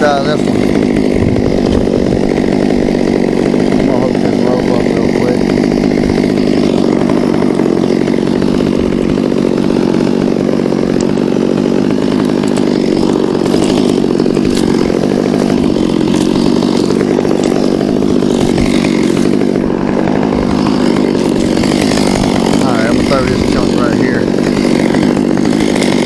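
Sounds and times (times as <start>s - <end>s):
chainsaw running: 0.0s - 26.0s.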